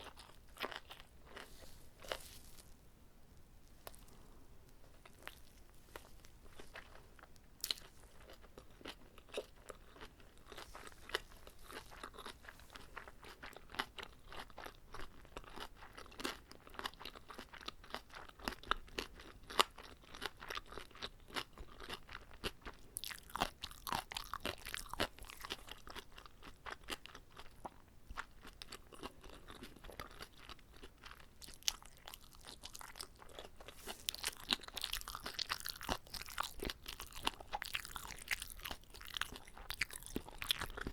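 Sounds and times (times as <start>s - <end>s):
chewing with moist crunches: 0.0s - 2.8s, 3.6s - 40.9s.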